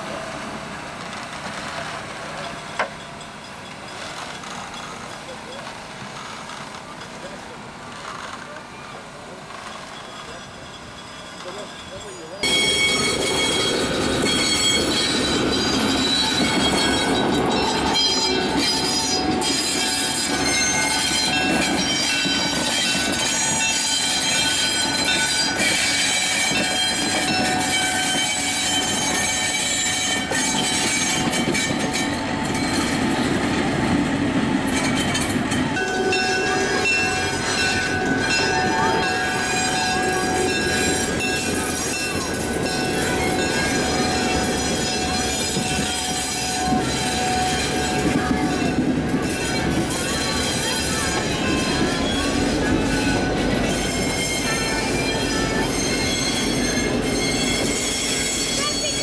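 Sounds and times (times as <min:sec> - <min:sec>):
train wheel clatter: 0:00.1 - 0:59.0
high-pitched wheel squeal: 0:09.6 - 0:33.2, 0:34.7 - 0:59.0.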